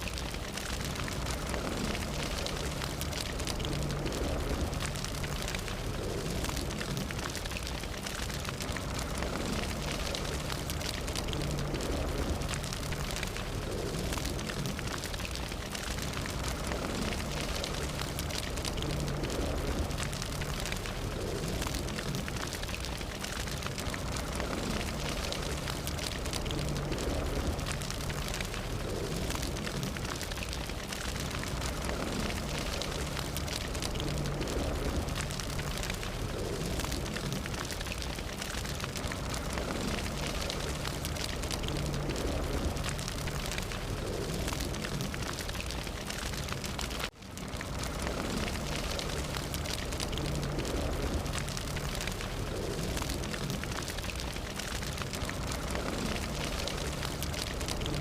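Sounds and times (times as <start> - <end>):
fire crackling: 0.0 - 58.0
low rumble of fire: 0.0 - 58.0.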